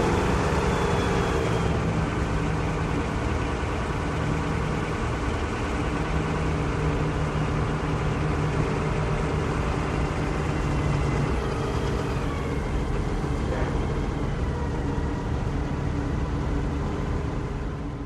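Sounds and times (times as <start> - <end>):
drone of engines and machinery: 0.0 - 18.0.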